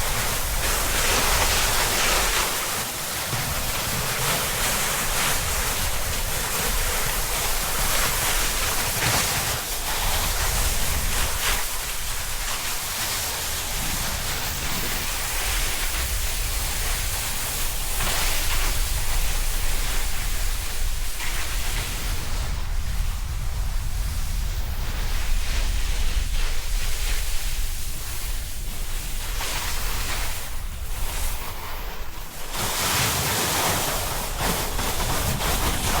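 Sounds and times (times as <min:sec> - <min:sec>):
snowboard sliding over snow: 0:00.0 - 0:36.0
wind buffeting microphone: 0:00.0 - 0:36.0.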